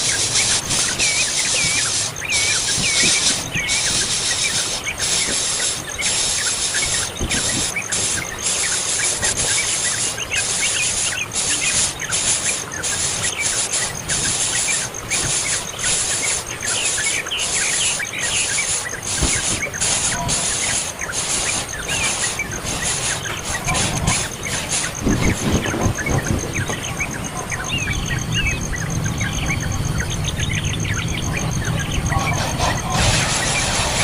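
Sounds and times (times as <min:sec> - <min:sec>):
birds chirping: 0:00.0 - 0:34.0
loud steady high hiss: 0:00.0 - 0:34.0.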